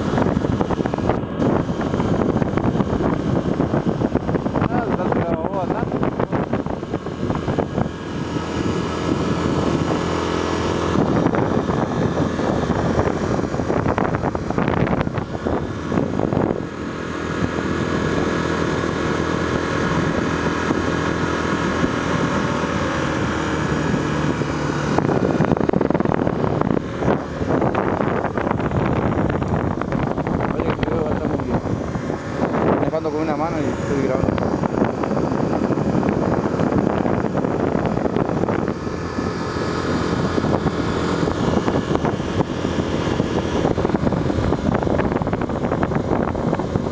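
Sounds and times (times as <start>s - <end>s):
motorcycle engine running: 0.0s - 46.9s
wind on microphone: 0.0s - 46.9s.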